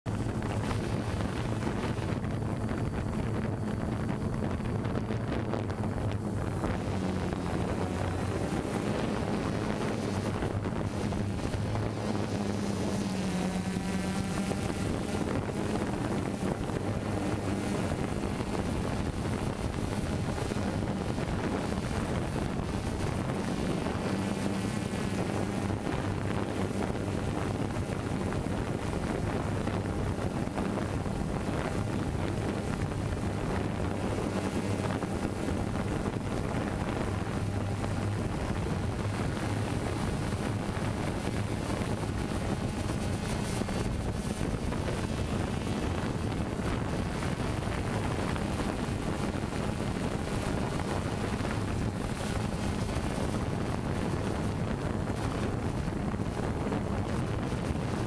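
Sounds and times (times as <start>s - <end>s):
drone propellers humming: 0.1s - 58.0s
wind on microphone: 0.1s - 58.0s.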